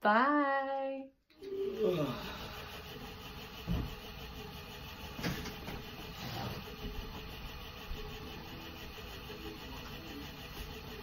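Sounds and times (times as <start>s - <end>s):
spinning wheel whirring: 1.4s - 11.0s.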